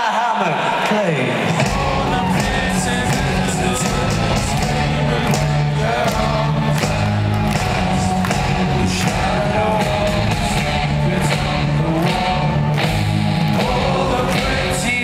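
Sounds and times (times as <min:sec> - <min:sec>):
drums and cymbals: 0:01.5 - 0:15.0
person singing: 0:01.6 - 0:12.8, 0:13.4 - 0:15.0
sustained bass notes: 0:01.6 - 0:15.0.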